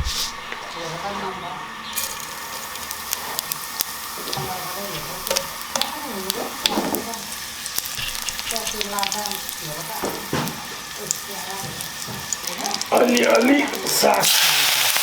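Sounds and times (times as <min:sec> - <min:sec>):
food sizzling in hot oil: 0:00.8 - 0:15.0
sharp crackling pops: 0:02.0 - 0:15.0.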